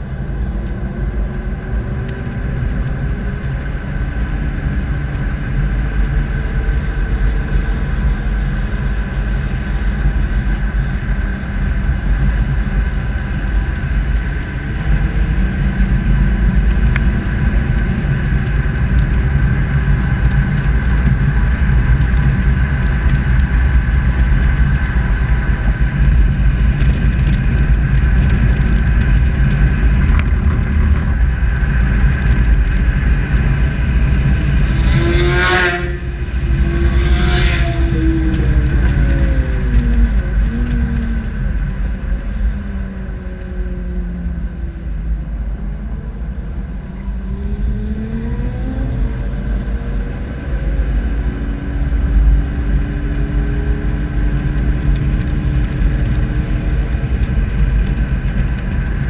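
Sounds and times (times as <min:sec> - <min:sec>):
car engine tyres and wind rumble: 0:00.0 - 0:59.0.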